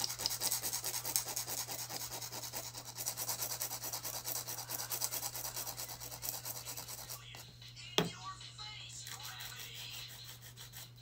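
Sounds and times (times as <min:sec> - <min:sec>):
nail file scraping: 0:00.0 - 0:07.5, 0:09.0 - 0:11.0.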